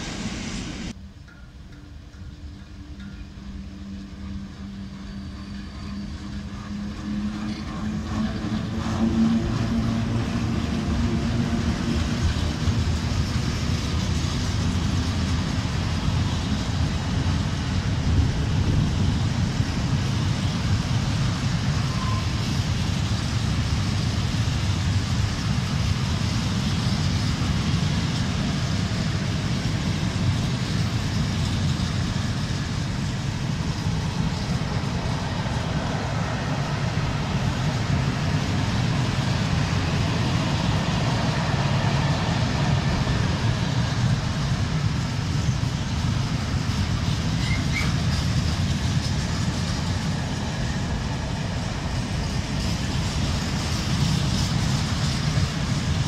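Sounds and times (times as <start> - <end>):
electric locomotive humming: 0.0 - 56.0
freight wagons rumbling past: 0.0 - 56.0
wheels clattering on rails: 0.0 - 56.0.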